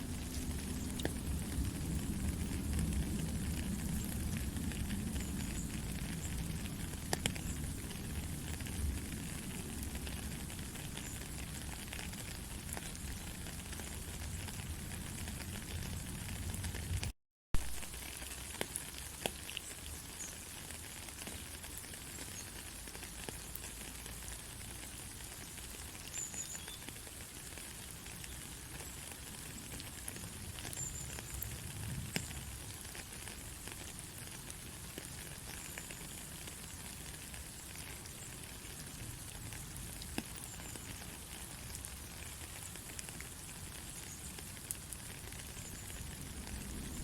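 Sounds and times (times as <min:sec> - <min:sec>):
rain drops ticking: 0:00.0 - 0:47.0
steady rain falling: 0:00.0 - 0:47.0.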